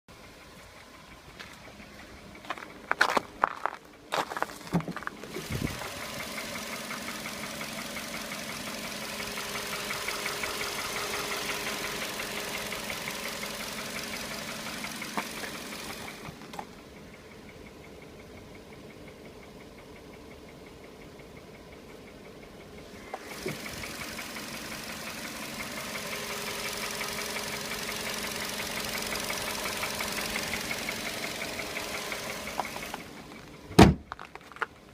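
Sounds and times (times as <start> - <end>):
car engine knocking: 0.1 - 34.9.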